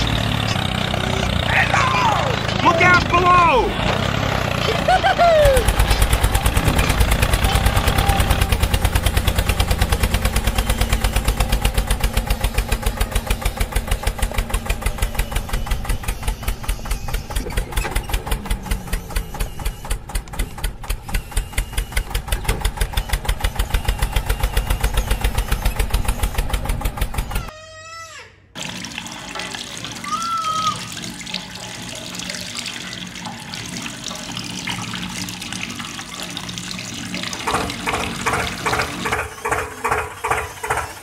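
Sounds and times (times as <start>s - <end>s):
tractor engine chugging: 0.0s - 27.5s, 30.9s - 41.0s.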